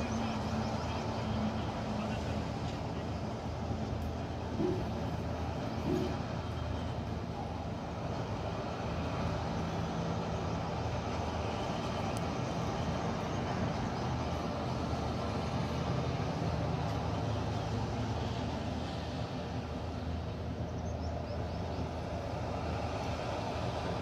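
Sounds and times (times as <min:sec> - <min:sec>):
combine harvester engine running: 0:00.0 - 0:24.0.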